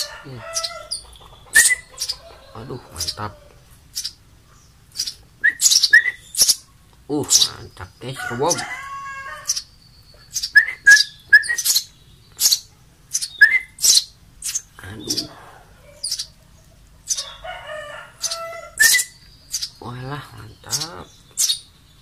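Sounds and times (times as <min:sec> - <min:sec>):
chicks chirping: 0:00.0 - 0:22.0.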